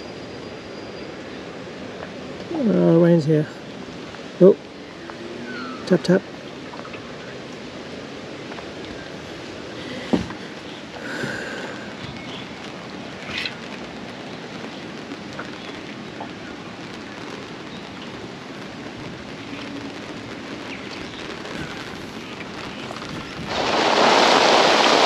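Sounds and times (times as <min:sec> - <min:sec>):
rain shower hissing: 0:00.0 - 0:25.0.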